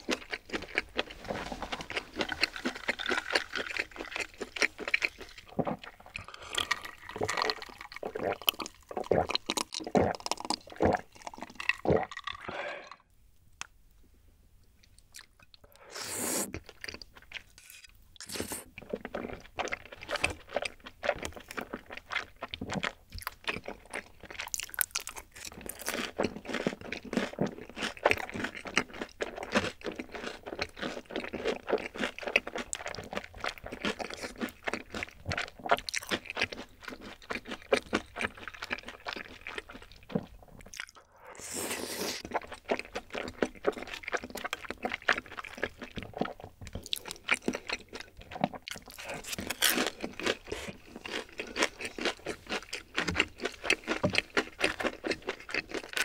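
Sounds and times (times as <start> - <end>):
close-miked chewing: 0.0 - 13.0, 14.8 - 56.0.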